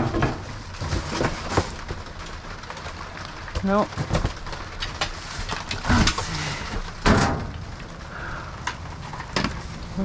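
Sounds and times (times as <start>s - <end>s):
items knocking and clunking: 0.0s - 8.0s, 8.6s - 9.9s.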